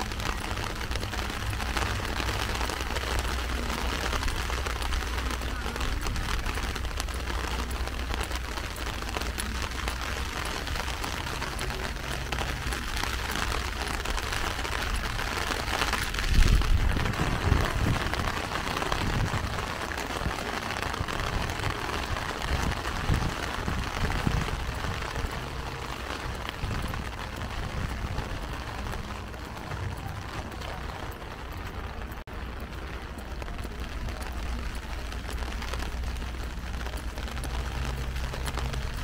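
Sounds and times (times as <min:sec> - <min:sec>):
heavy rain on an umbrella: 0:00.0 - 0:39.0.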